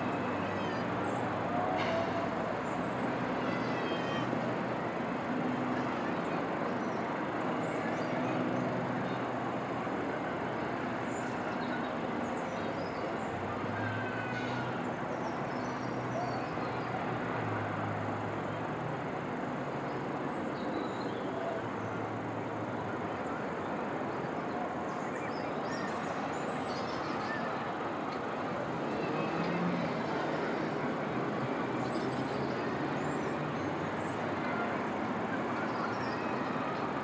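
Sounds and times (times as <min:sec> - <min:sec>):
distant city traffic: 0:00.0 - 0:37.0.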